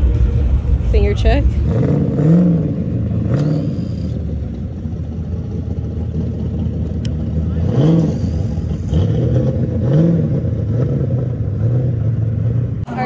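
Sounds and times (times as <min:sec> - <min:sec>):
car engine idling: 0:00.0 - 0:13.0
engine throttle blips: 0:00.0 - 0:13.0.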